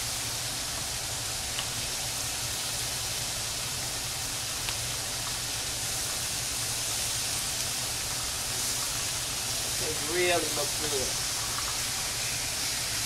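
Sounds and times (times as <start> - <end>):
range hood fan humming: 0.0 - 13.0
steaks sizzling on grill pan: 0.0 - 13.0.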